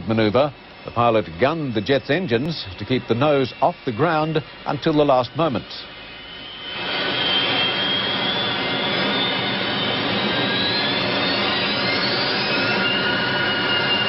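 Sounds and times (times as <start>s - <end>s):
high engine whine: 0.0s - 14.0s
jet engines at high power: 0.0s - 14.0s.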